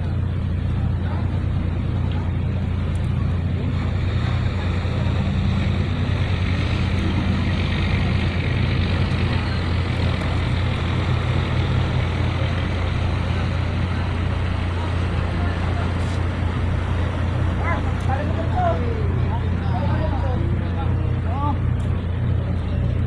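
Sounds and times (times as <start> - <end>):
engine droning steadily: 0.0 - 23.0.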